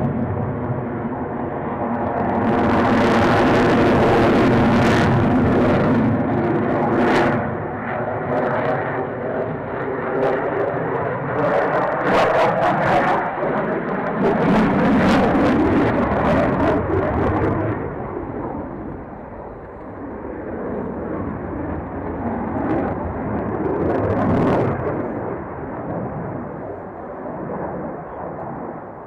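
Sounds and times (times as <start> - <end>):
aircraft engine roar: 0.0 - 29.0.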